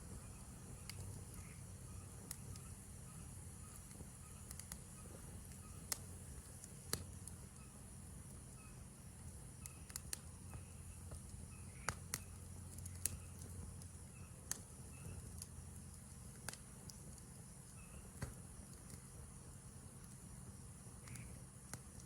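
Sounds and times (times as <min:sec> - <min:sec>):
campfire crackling and popping: 0:00.0 - 0:22.0
faint repeated chirping: 0:00.0 - 0:22.0
insects chorus: 0:00.0 - 0:22.0.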